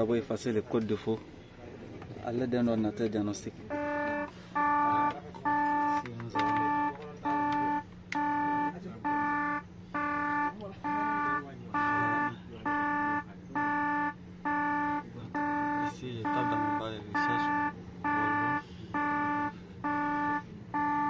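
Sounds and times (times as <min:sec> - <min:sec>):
steady low hum: 0:00.0 - 0:21.0
warning buzzer beeping: 0:03.6 - 0:21.0.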